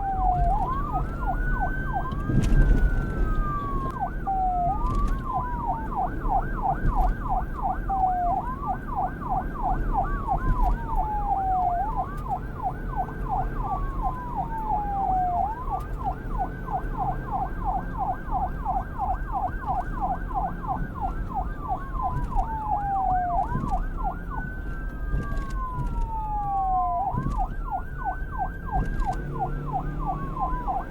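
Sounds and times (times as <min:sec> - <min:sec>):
police car siren: 0:00.0 - 0:30.9.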